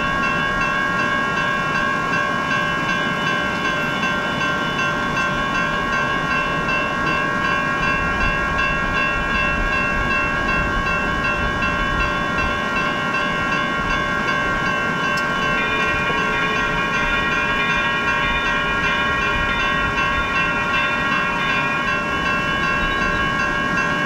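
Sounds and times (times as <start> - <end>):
railroad crossing bells ringing: 0.0 - 24.0.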